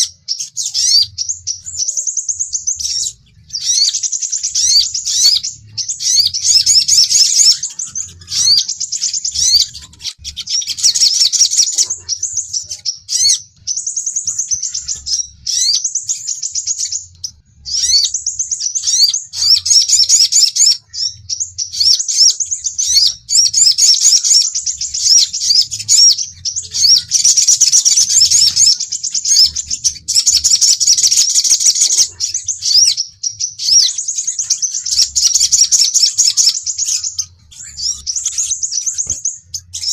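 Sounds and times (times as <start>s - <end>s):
high chirping bird trills: 0.0s - 39.9s.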